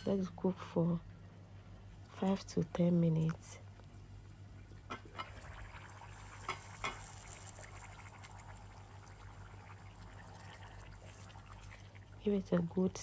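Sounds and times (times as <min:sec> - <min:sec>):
stew bubbling in a pot: 0:00.4 - 0:13.0.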